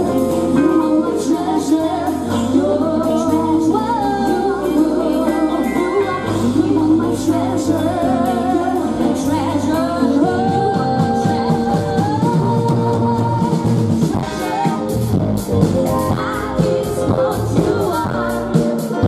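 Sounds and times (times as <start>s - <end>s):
woman singing: 0.0s - 15.0s, 16.0s - 19.0s
bass guitar: 0.0s - 19.0s
drum kit: 0.0s - 19.0s
electric guitars: 0.0s - 19.0s
keyboard: 0.0s - 19.0s.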